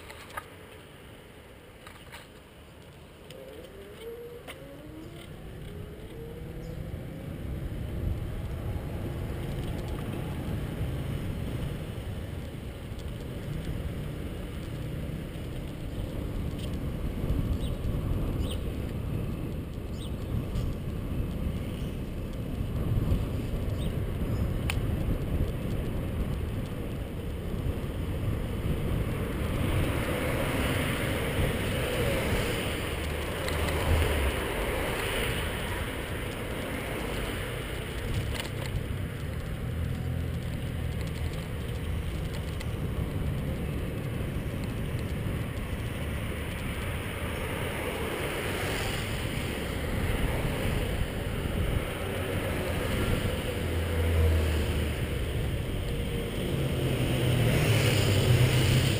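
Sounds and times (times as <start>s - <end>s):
low wind buffeting: 0.0s - 58.9s
wind and road noise: 0.0s - 58.9s.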